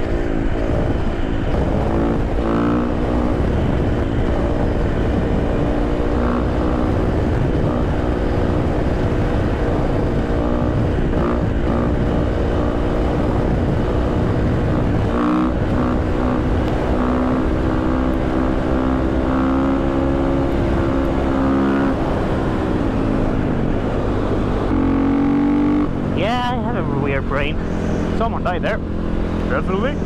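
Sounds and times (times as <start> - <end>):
motorcycle engine running: 0.0 - 30.0
wind rumble on microphone: 0.0 - 30.0.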